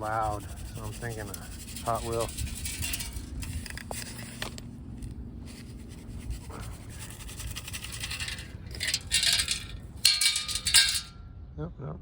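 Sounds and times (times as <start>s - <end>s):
digging tool scraping loose ground: 0.0s - 11.1s.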